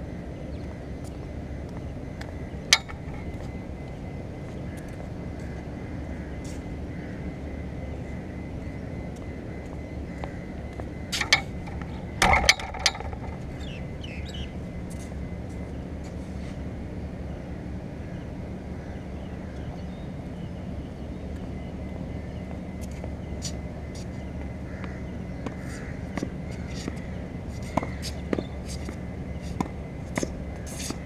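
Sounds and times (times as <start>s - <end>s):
outdoor hum: 0.0s - 31.0s.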